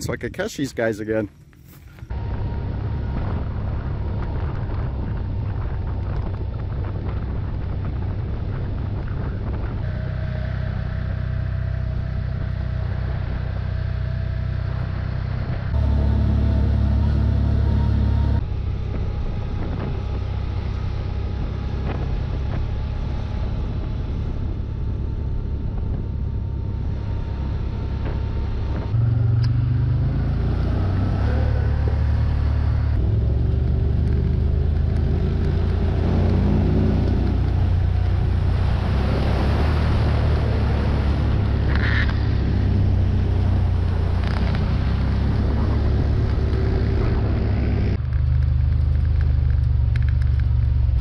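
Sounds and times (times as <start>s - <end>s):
off-road vehicle engine running: 0.0s - 51.0s
road noise: 0.0s - 51.0s.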